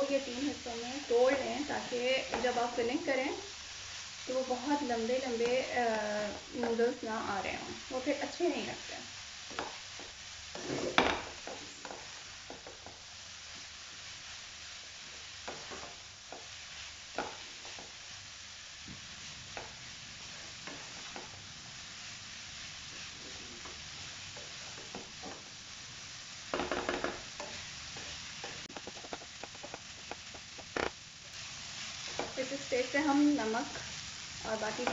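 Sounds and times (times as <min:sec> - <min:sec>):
noodles sizzling in a wok: 0:00.0 - 0:34.9
spatula scraping and knocking wok: 0:00.1 - 0:34.9.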